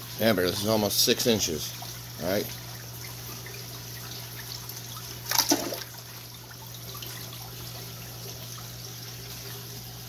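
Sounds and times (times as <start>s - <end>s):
low pump hum: 0.0s - 10.0s
water trickling and splashing: 0.0s - 10.0s.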